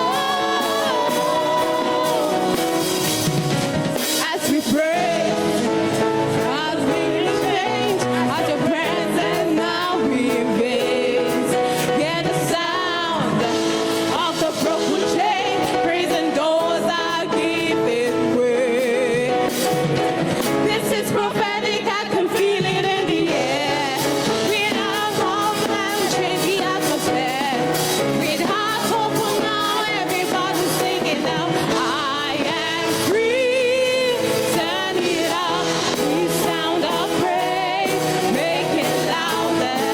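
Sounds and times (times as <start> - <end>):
person singing gospel: 0.0 - 3.3, 4.0 - 39.9
band accompaniment: 0.0 - 39.9.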